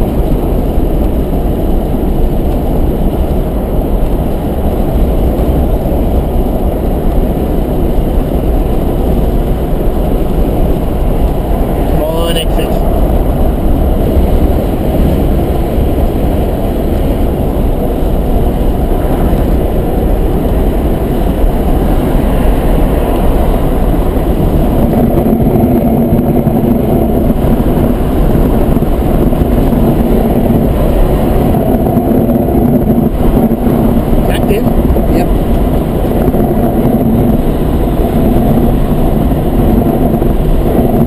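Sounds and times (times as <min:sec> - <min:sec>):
car cabin road noise: 0:00.0 - 0:41.0.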